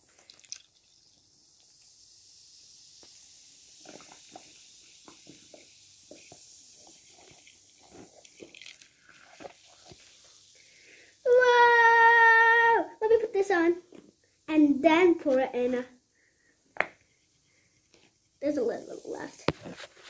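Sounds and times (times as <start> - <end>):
liquid fizzing hiss: 0.0 - 15.8, 18.4 - 20.0.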